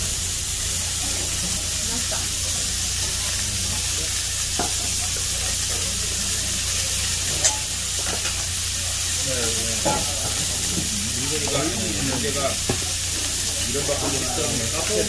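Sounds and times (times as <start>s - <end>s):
pork sizzling on a griddle: 0.0s - 15.0s.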